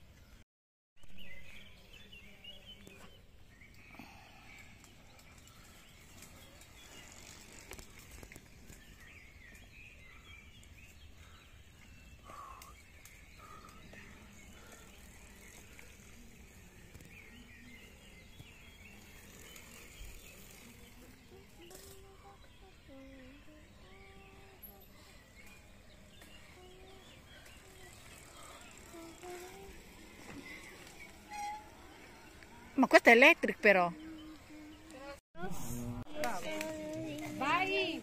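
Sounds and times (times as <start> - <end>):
faint birdsong: 1.0 - 38.0.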